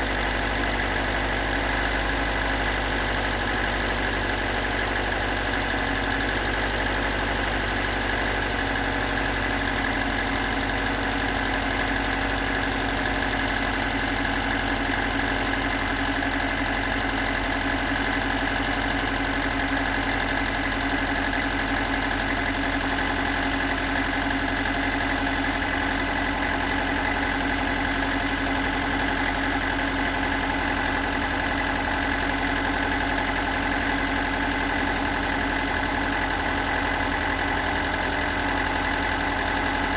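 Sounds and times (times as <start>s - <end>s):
engine idling roughly with knocking: 0.0s - 39.9s.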